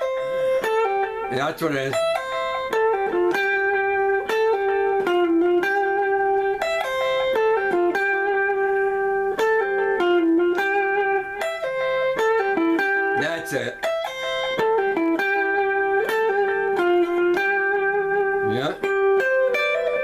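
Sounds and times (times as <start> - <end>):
slow guitar melody: 0.0 - 20.0.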